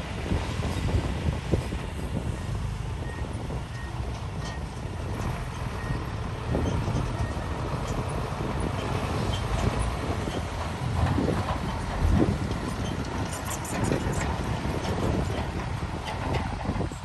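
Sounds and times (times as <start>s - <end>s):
diesel engine rumble: 0.0s - 17.0s
machinery clanking and churning: 0.6s - 17.0s.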